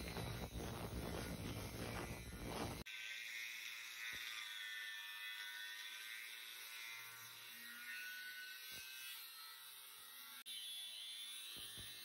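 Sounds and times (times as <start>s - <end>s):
angle grinder cutting steel: 0.0s - 12.0s.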